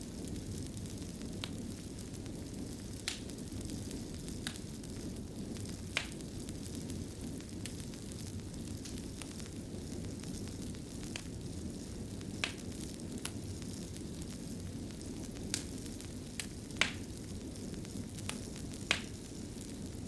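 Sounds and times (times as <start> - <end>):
fire crackles and pops: 0.0 - 20.0
fire rumbling in fireplace: 0.0 - 20.0.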